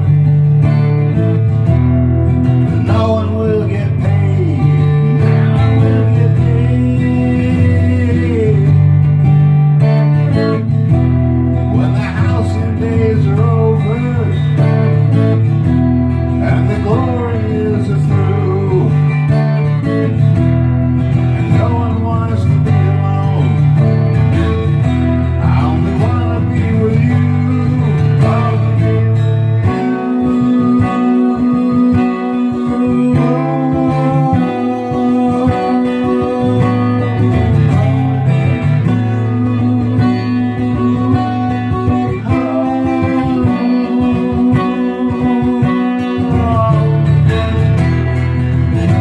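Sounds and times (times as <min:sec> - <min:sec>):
acoustic guitar playing: 0:00.0 - 0:49.0.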